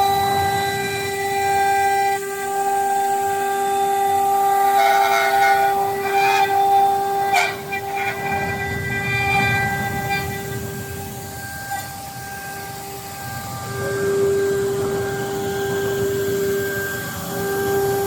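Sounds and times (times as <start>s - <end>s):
cutter cutting workpiece: 0.0s - 18.0s
router spindle high whine: 0.0s - 18.0s.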